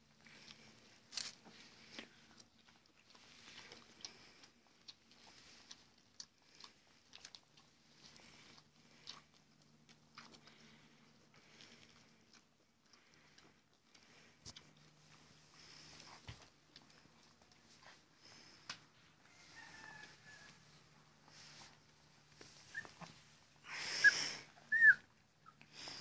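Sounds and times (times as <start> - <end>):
puppies suckling: 0.0 - 26.0.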